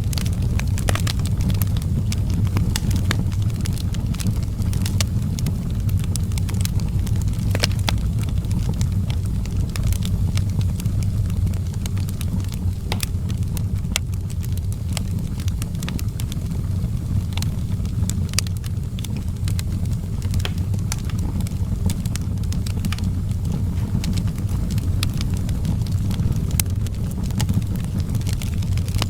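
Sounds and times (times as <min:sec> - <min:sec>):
fire crackles and pops: 0:00.0 - 0:29.0
wood fire rumbling: 0:00.0 - 0:29.0.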